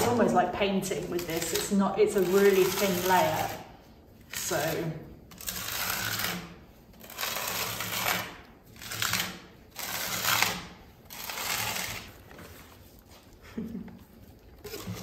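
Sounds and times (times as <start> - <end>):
trowel scraping plaster on wall: 0.0 - 13.2, 14.7 - 15.0.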